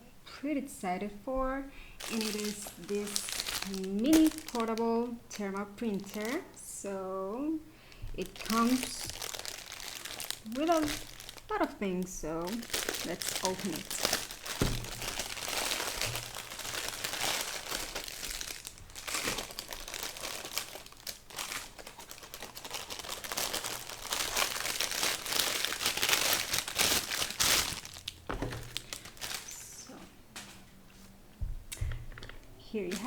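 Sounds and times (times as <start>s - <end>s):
packaging crinkling: 1.9s - 6.6s, 7.8s - 29.8s, 32.2s - 33.0s.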